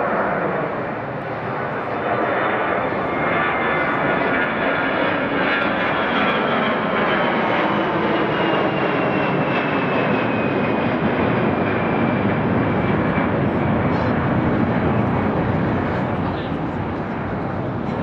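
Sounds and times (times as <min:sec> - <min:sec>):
jet engines passing: 0:00.0 - 0:18.0.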